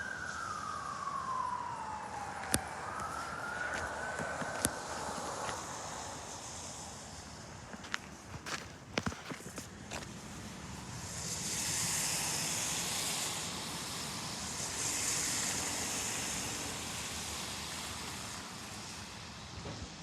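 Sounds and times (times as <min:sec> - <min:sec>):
strong hiss: 0:00.0 - 0:08.3, 0:09.9 - 0:20.0
vehicles passing: 0:00.3 - 0:20.0.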